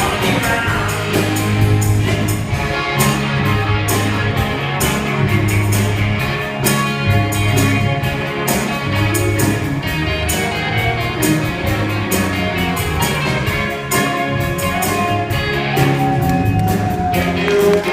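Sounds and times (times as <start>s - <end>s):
bass line: 0.0s - 17.9s
guitar: 0.0s - 17.9s.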